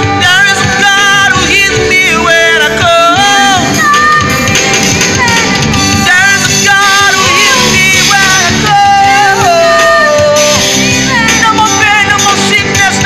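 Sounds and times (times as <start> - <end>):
man singing gospel: 0.0 - 4.2, 5.9 - 13.0
electronic keyboard: 0.0 - 13.0.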